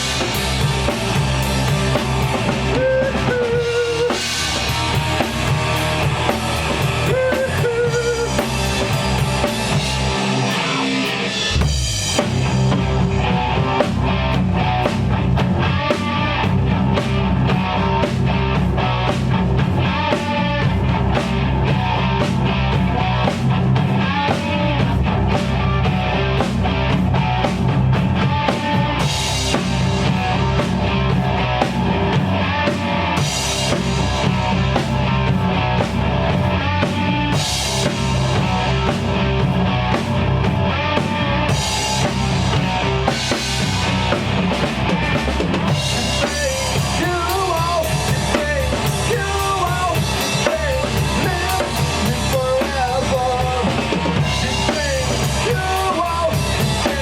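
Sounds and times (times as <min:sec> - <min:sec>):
rock band playing: 0:00.0 - 0:57.0
wavering lead guitar line: 0:00.0 - 0:57.0.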